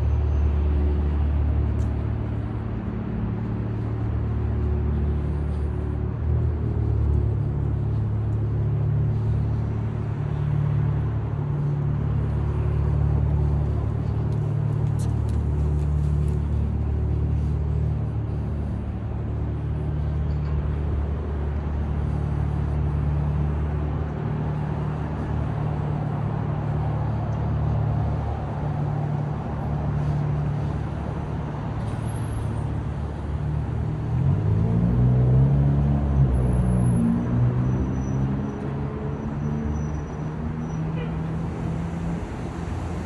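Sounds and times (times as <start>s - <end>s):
road noise: 0.0s - 43.0s
vehicle engines humming: 0.0s - 43.0s.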